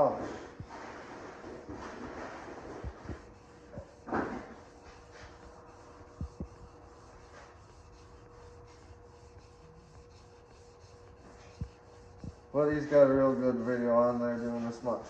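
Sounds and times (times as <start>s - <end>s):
sandpaper rubbing on metal: 0.0s - 15.0s.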